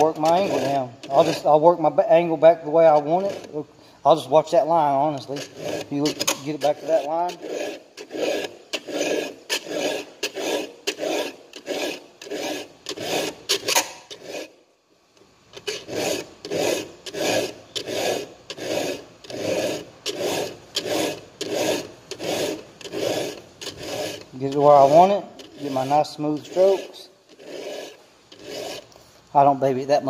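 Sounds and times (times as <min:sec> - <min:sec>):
file rasping on chain tooth: 0:00.0 - 0:03.6, 0:05.1 - 0:14.6, 0:15.5 - 0:28.9.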